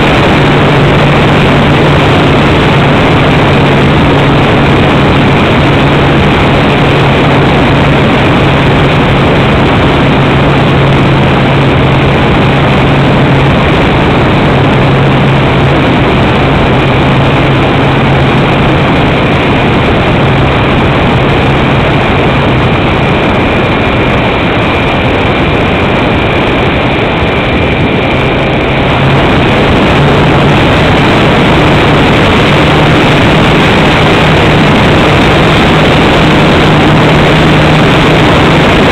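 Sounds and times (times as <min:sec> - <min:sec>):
model glider motor droning: 0:00.0 - 0:38.9
rushing air: 0:00.0 - 0:38.9.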